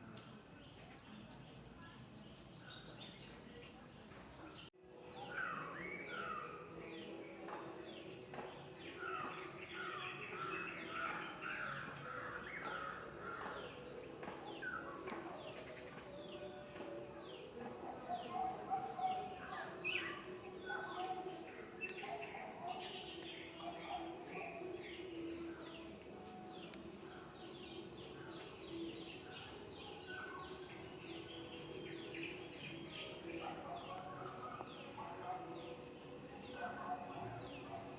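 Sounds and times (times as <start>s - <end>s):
wild birds calling: 5.1s - 37.9s.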